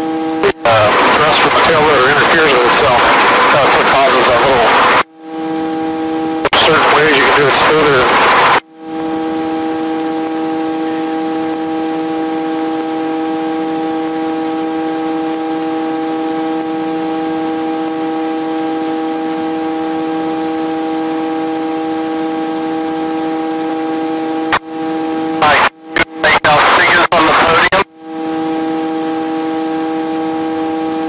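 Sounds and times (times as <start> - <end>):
helicopter cabin drone: 0.0 - 31.0.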